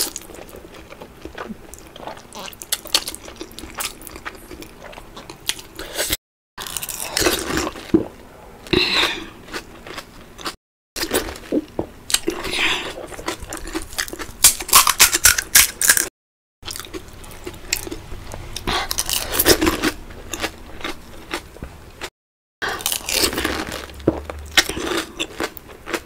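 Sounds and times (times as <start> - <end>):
crunchy food chewing: 0.0 - 26.0.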